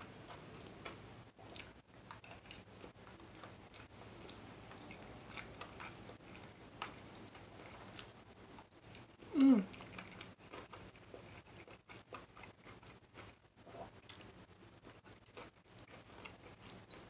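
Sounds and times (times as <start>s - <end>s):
person chewing noodles: 0.0s - 17.0s.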